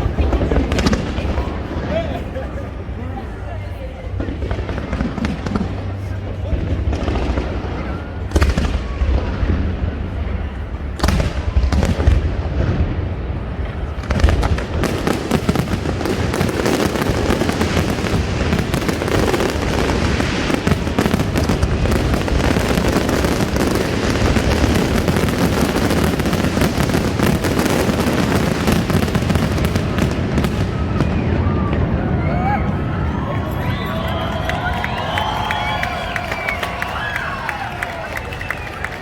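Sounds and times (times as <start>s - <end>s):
fireworks bangs: 0.0s - 3.0s, 4.1s - 39.0s
crackling fireworks bursts and booms: 0.0s - 39.0s.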